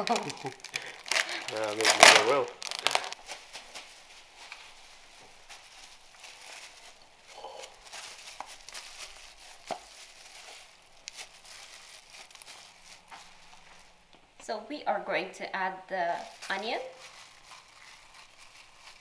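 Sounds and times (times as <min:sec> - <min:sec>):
plastic wrap crinkling: 0:00.0 - 0:14.1, 0:16.0 - 0:19.0.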